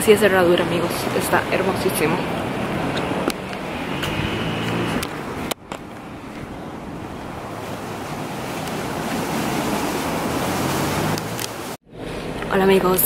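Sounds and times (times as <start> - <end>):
waves lapping on rocky shore: 0.1 - 11.8.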